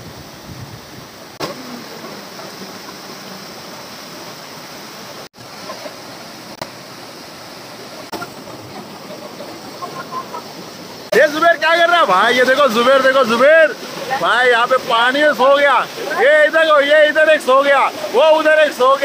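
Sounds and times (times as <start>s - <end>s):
waterfall rushing over rocks: 0.0s - 19.0s.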